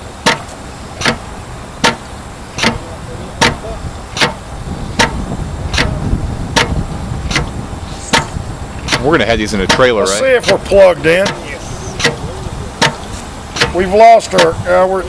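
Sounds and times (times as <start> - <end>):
steady background noise: 0.0 - 15.0
air pump clicking: 0.1 - 14.6.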